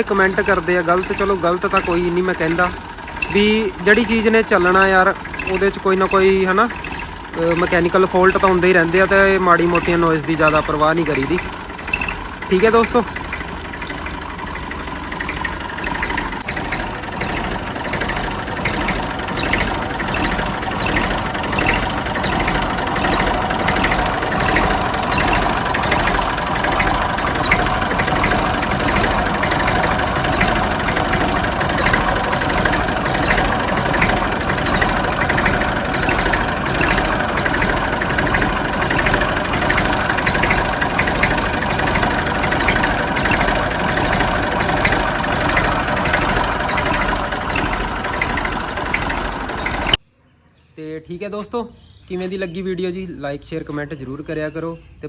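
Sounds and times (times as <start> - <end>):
diesel tractor engine idling: 0.0 - 50.0.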